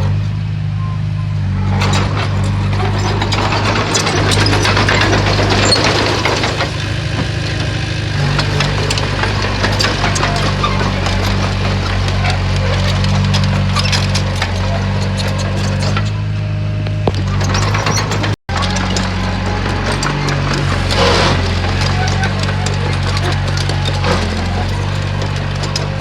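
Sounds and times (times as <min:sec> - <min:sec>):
bulldozer diesel engine running: 0:00.0 - 0:26.0
rock grinding and cracking: 0:02.3 - 0:26.0.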